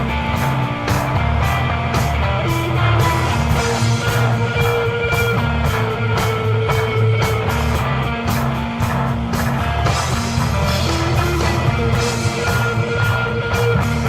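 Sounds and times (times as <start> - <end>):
deep bass line: 0.0 - 14.0
drums and cymbals: 0.0 - 14.0
electric guitar sustained notes: 0.0 - 14.0.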